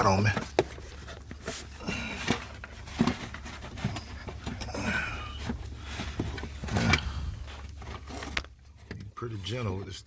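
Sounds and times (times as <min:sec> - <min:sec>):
plastic knocks clicks and scrapes: 0:00.0 - 0:04.8, 0:05.4 - 0:10.0.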